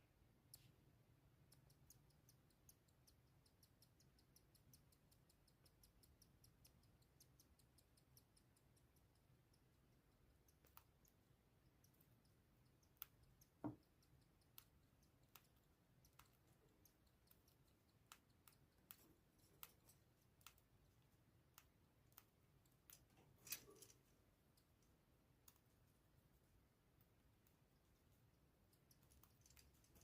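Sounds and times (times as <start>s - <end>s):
cockatiel beak clicks: 0.4s - 30.0s.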